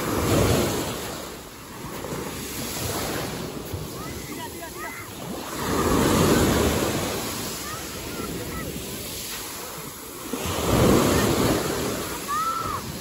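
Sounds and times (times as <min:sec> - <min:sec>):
waves breaking on shore: 0:00.0 - 0:13.0.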